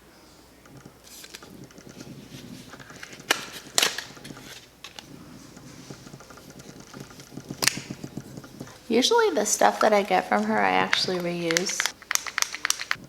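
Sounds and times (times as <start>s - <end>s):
packaging rustling and handling: 0.6s - 13.0s.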